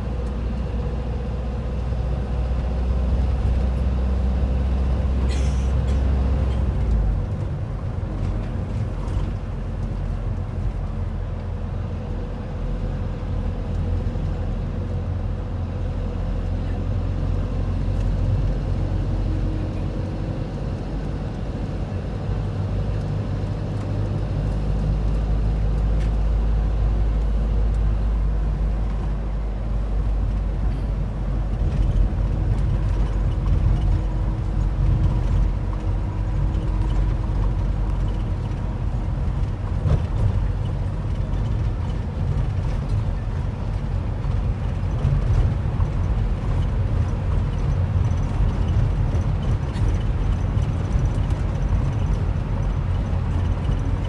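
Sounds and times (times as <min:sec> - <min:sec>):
bus engine and tyre drone: 0:00.0 - 0:54.0.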